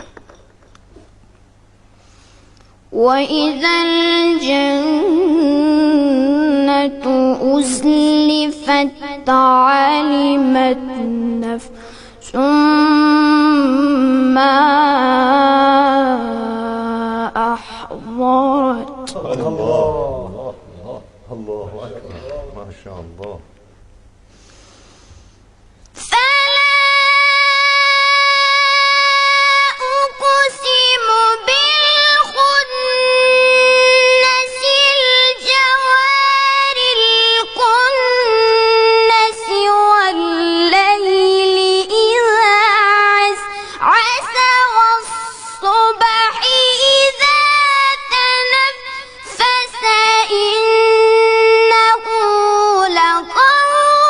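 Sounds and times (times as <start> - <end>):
child chanting a recitation: 2.9 - 21.0, 26.0 - 54.0.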